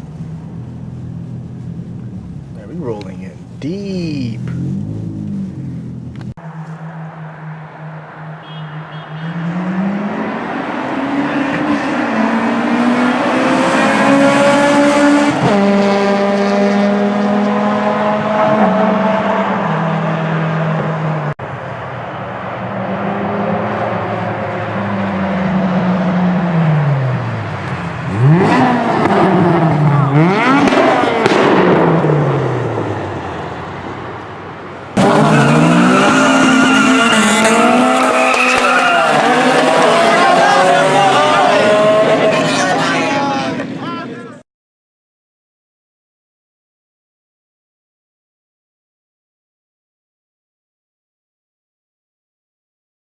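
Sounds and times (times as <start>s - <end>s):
car engine revving: 0.0s - 43.8s.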